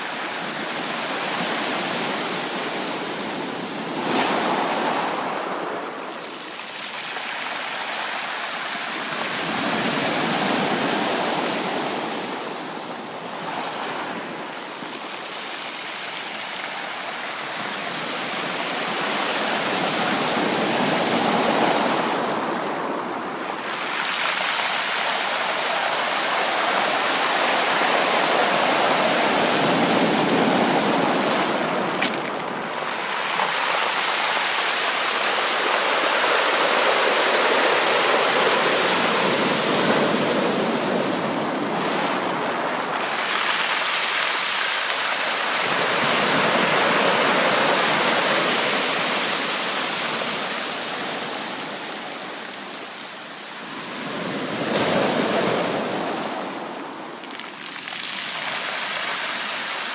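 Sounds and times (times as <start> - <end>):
sea waves breaking on a beach: 0.0 - 59.9.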